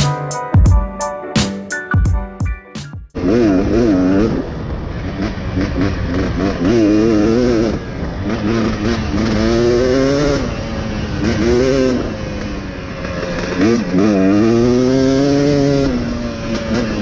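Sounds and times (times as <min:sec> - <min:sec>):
dirt bike engine revving: 0:03.2 - 0:17.0
wind and road noise: 0:03.2 - 0:17.0.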